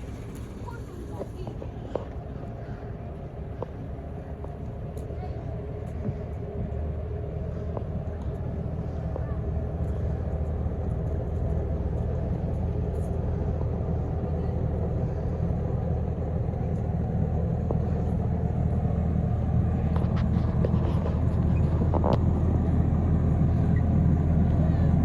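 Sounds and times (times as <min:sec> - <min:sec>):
vehicle engine droning: 0:00.0 - 0:25.0.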